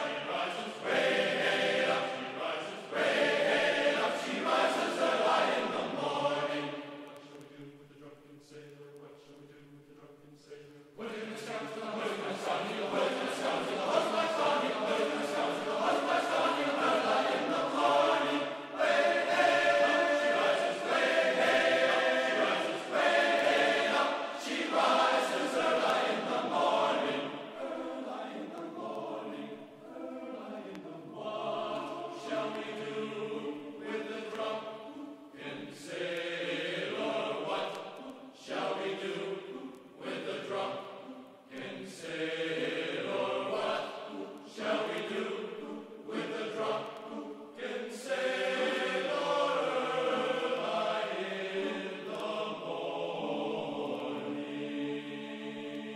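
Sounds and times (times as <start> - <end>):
choir singing chant-like phrases: 0.0 - 55.9.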